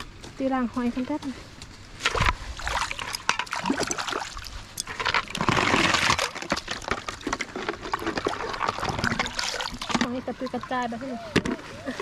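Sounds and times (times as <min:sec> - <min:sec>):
water sloshing and splashing: 0:00.8 - 0:12.0.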